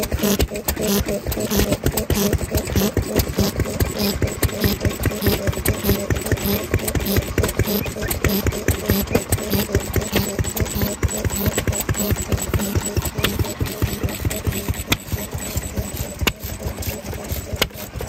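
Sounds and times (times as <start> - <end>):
stationary engine running: 0.0 - 18.0.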